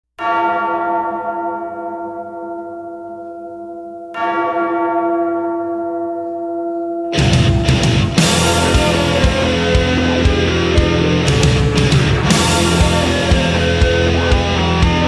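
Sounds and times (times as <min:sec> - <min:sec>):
deep tolling bell: 0:00.2 - 0:15.0.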